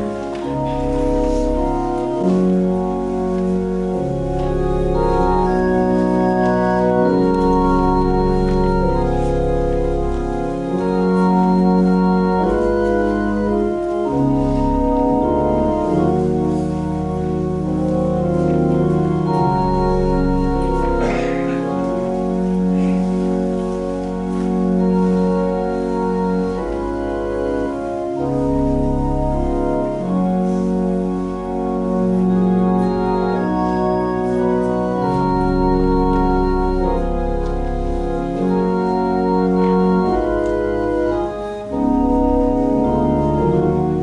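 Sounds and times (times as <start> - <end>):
organ playing held chords: 0.0 - 44.0
sustained low bass line: 0.0 - 44.0.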